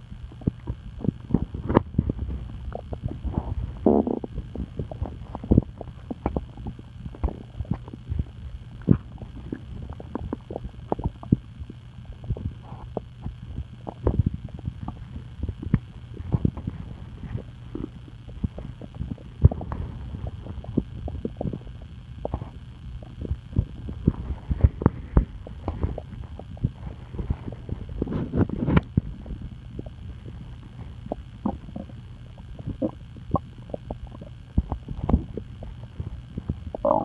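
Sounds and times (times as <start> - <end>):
steady low hum: 0.0 - 37.0
stomach gurgling: 0.0 - 37.0.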